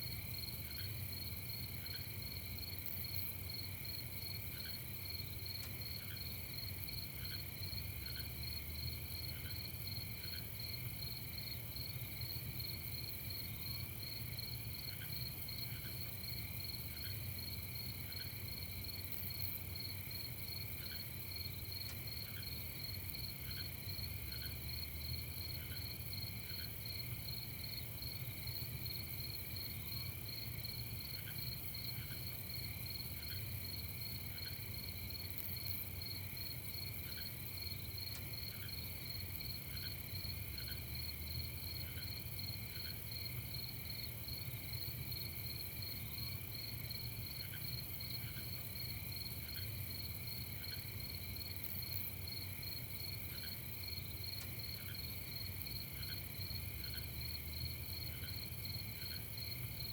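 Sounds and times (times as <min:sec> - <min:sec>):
crickets chirping: 0:00.0 - 0:59.9
insect paired chirps: 0:00.1 - 0:59.9.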